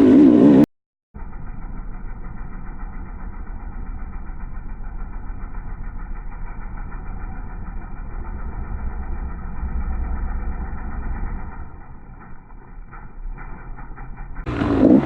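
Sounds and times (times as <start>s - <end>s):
muffled dirt bike engine: 1.2s - 15.0s.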